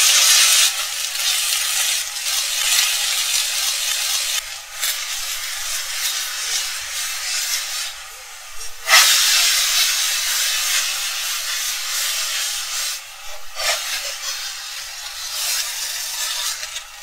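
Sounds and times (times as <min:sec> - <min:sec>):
pancake sizzling in hot oil: 0:00.0 - 0:17.0.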